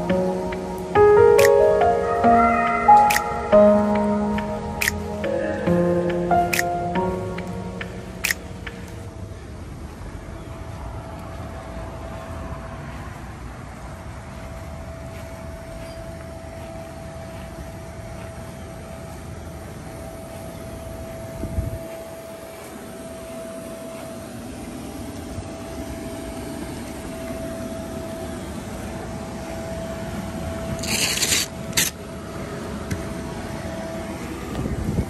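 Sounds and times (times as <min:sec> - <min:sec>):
electric blower fan humming: 0:00.0 - 0:12.3, 0:13.8 - 0:35.0.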